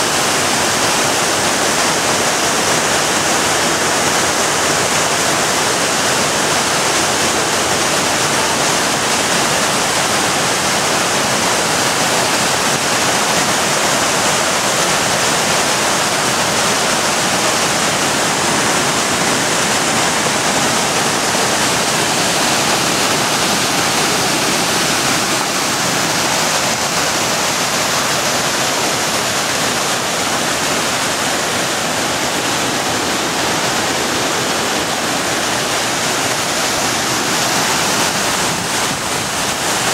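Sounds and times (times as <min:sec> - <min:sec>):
river cascading over boulders: 0:00.0 - 0:39.9.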